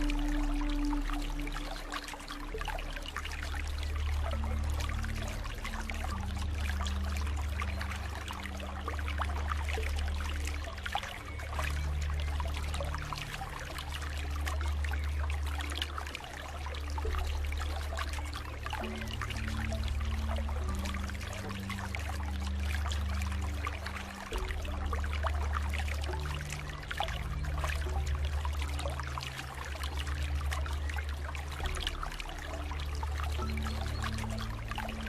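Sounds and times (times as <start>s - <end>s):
low drone of sustained tones: 0.0s - 35.0s
water trickling and splashing: 0.0s - 35.0s.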